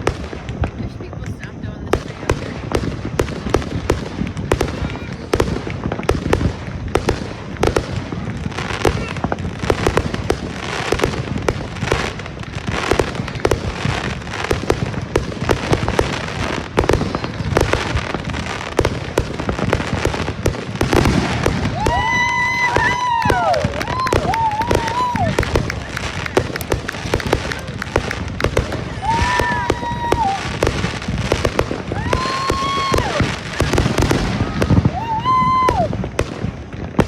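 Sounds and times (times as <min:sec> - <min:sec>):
fireworks bangs: 0:00.0 - 0:37.0
fireworks crackle: 0:00.0 - 0:37.0.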